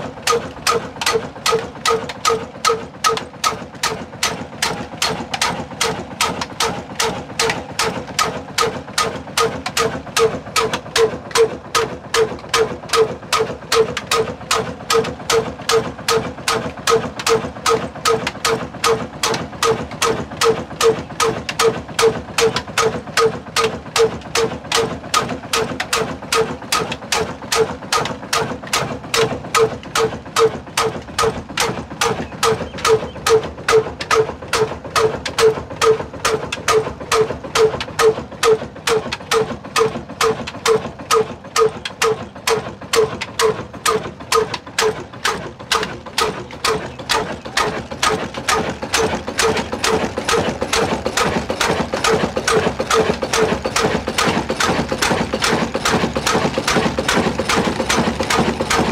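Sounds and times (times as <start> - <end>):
diesel engine running slowly: 0.0 - 58.9.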